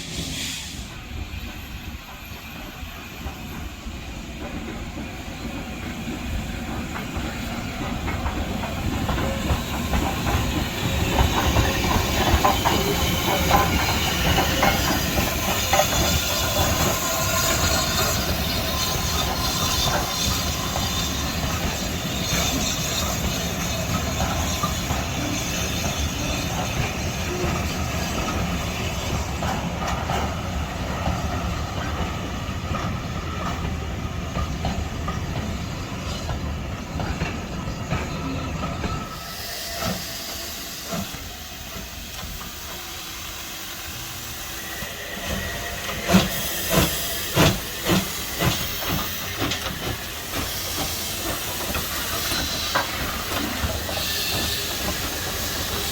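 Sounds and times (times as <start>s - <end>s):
steam locomotive hissing: 0.0s - 55.9s
steam train rumbling by: 0.0s - 55.9s.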